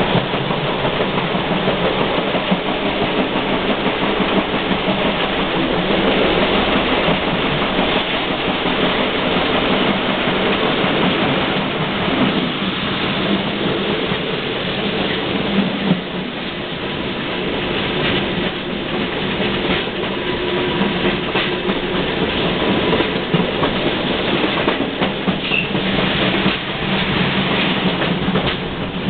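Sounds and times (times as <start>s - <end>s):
steam train running: 0.0s - 29.0s.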